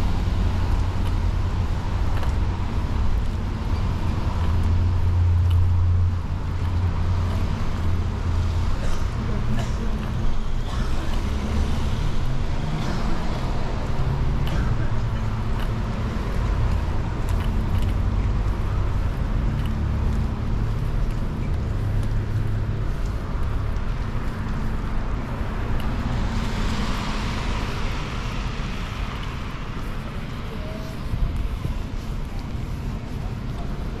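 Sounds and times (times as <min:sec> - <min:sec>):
tyres hissing on wet road: 0:00.0 - 0:34.0
vehicle engines rumbling: 0:00.0 - 0:34.0.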